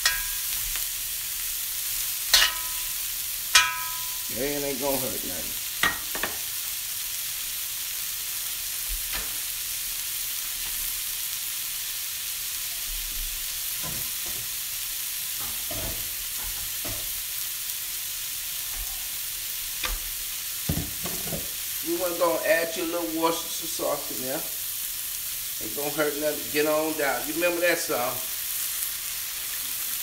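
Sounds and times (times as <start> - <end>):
vegetables sizzling in a wok: 0.0 - 30.0.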